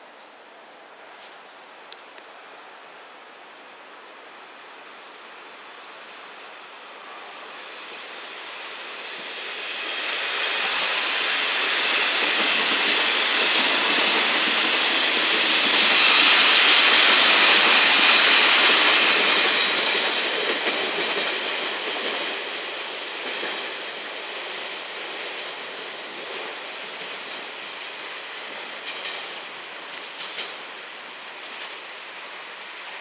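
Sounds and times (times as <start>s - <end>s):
train wheels on rails: 0.4s - 33.0s
diesel train passing: 1.7s - 33.0s.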